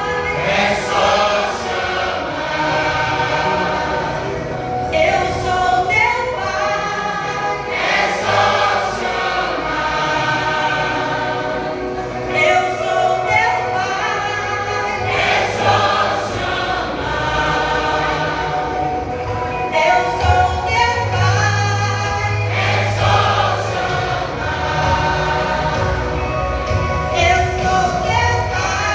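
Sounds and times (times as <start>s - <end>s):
vocal group singing in harmony: 0.0s - 28.9s.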